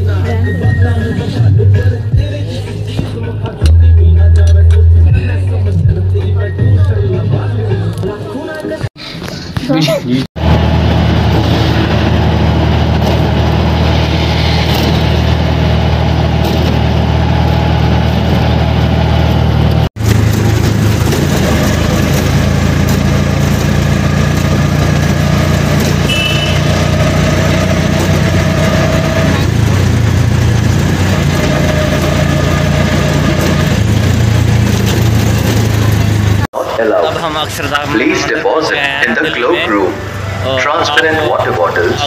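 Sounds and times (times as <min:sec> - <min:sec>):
road noise: 0:00.0 - 0:42.0
vehicle engine hum: 0:00.0 - 0:42.0.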